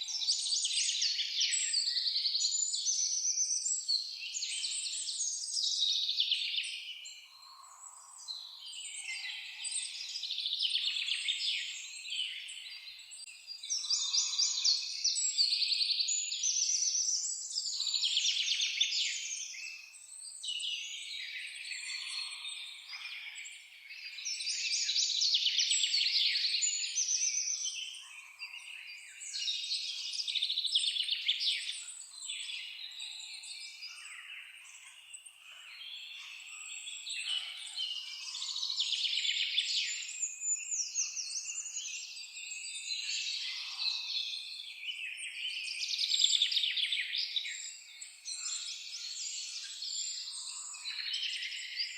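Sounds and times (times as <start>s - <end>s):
songbirds trilling and chirping: 0.0s - 51.9s.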